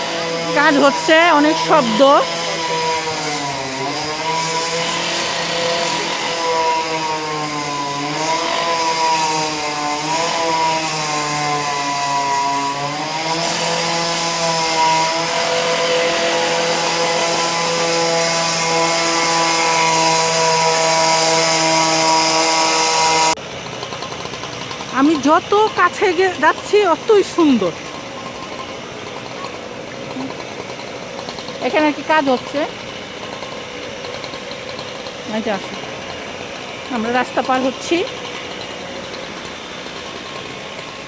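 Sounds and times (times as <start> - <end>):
construction machinery humming: 0.0 - 41.0.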